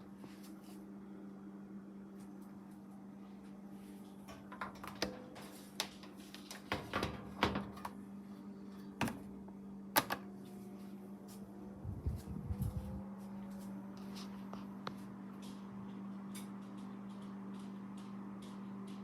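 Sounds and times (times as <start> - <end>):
table fan humming: 0.0 - 19.0.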